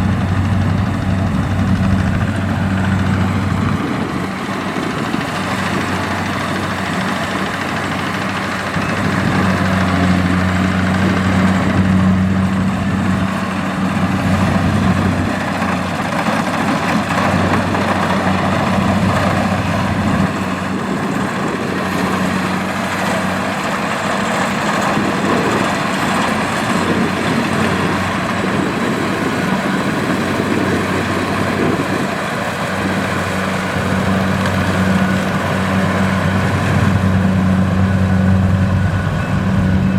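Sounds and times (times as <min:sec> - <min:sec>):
harvester diesel engine running: 0:00.0 - 0:39.9.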